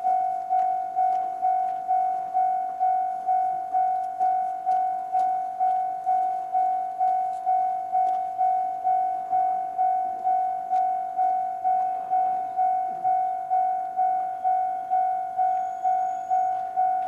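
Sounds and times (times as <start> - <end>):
level crossing alarm dings: 0.0 - 17.0.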